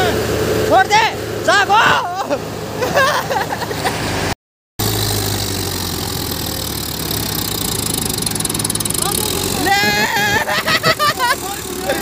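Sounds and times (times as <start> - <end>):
diesel tractor engine idling: 0.0 - 4.2, 4.8 - 12.0.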